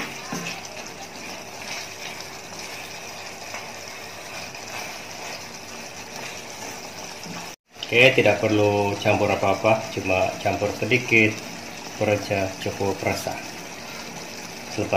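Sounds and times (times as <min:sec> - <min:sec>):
food sizzling in a wok: 0:00.0 - 0:14.9
spatula stirring: 0:00.0 - 0:14.9.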